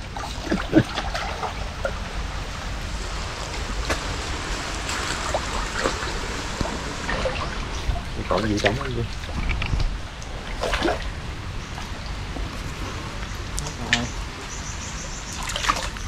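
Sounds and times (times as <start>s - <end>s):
small water splashes: 0.0s - 14.4s, 15.2s - 16.0s
water sloshing and trickling: 0.0s - 16.0s.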